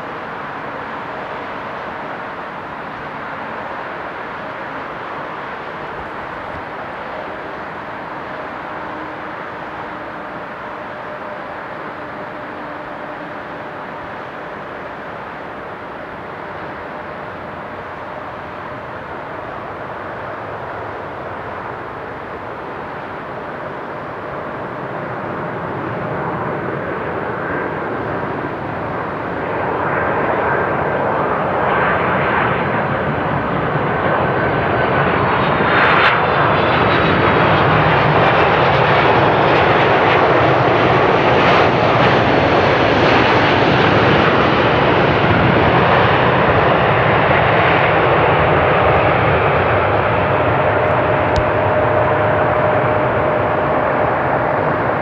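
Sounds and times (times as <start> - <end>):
faint jet whine: 0.0 - 55.0
jet engine noise: 0.0 - 55.0.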